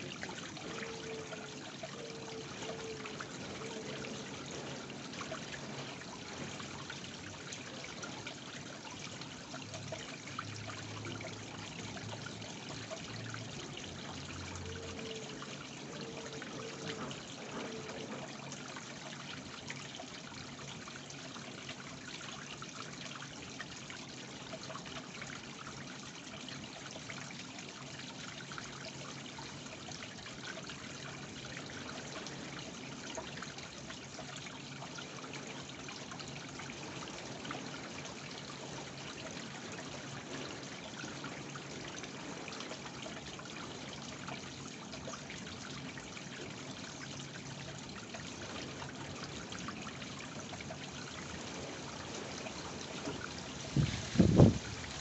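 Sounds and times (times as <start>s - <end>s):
waterfall splashing into pond: 0.0s - 55.0s.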